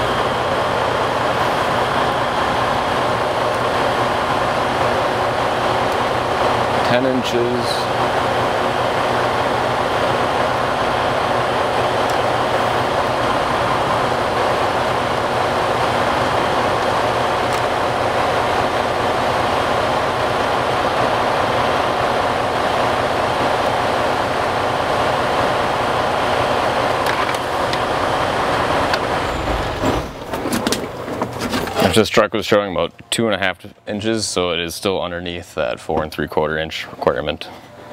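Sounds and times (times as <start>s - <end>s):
truck diesel engine idling: 0.0s - 35.7s.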